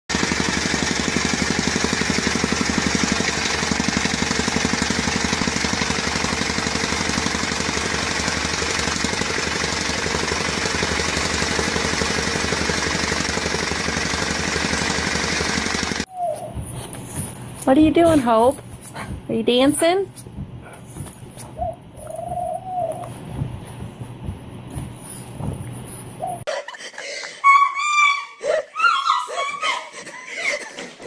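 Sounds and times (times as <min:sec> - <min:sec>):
rammer engine pounding ground: 0:00.1 - 0:26.5.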